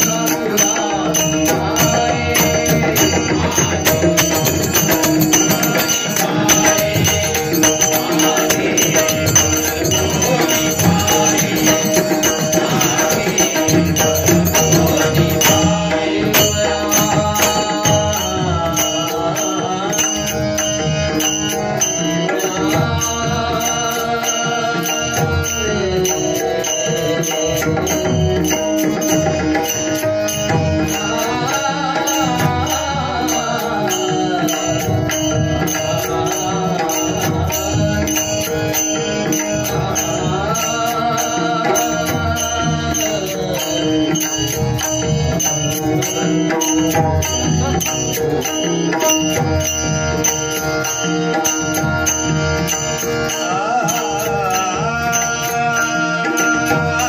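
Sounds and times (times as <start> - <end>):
man singing devotional song: 0.0 - 57.0.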